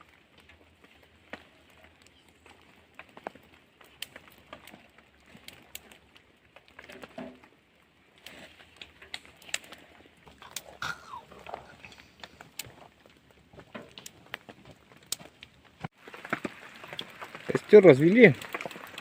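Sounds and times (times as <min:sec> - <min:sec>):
twigs snapping: 0:00.4 - 0:07.5, 0:08.1 - 0:17.6.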